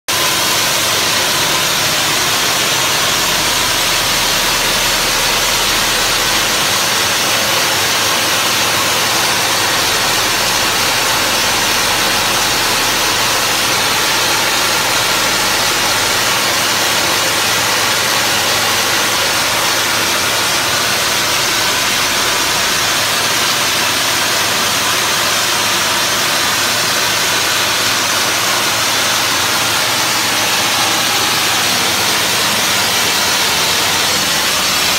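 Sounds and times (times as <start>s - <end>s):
wet-blasting nozzle hissing: 0.2s - 34.9s.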